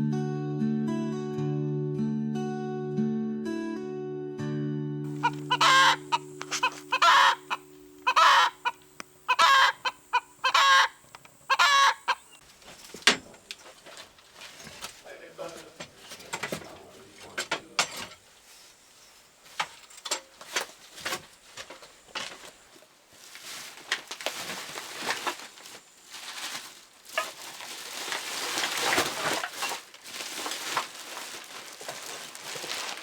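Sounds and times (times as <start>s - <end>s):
rustling and scraping: 5.1s - 11.7s, 12.4s - 33.0s.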